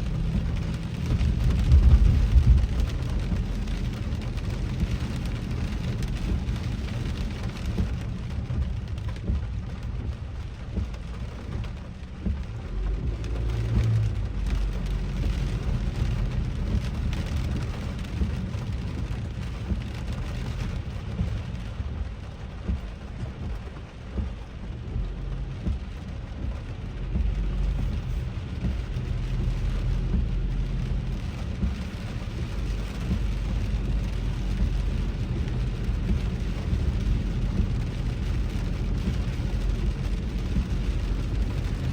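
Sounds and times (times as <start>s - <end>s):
rain falling on a car: 0.0s - 41.9s
road and engine rumble: 0.0s - 41.9s.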